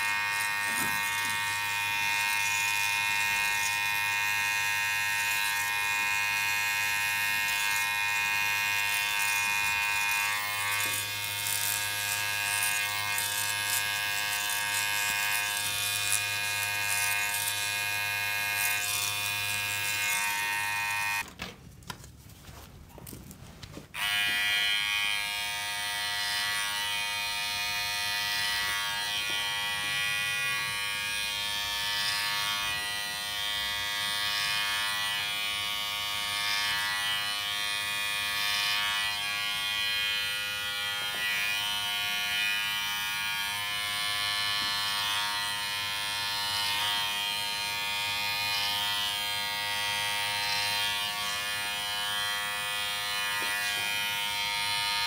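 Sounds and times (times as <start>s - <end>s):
electric hair clippers buzzing: 0.0s - 21.2s, 24.0s - 55.0s.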